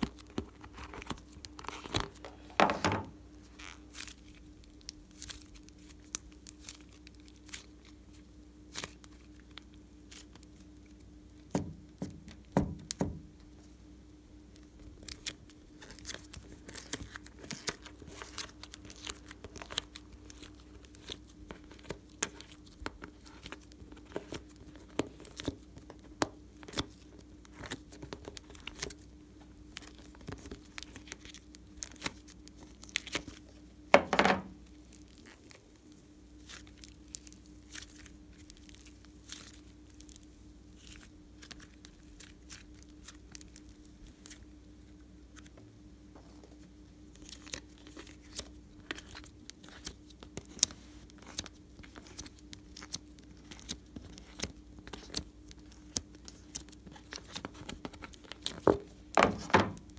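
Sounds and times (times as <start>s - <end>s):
sticky slime crackling and popping: 0.0s - 2.2s, 3.6s - 13.1s, 14.6s - 33.6s, 34.7s - 44.5s, 47.1s - 59.9s
faint steady hum: 0.0s - 59.9s.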